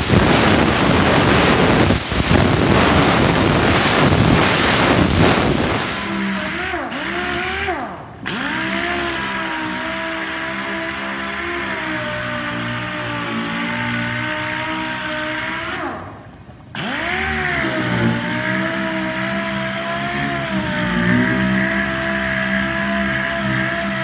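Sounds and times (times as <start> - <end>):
pneumatic sander whining on steel: 0.0 - 24.0.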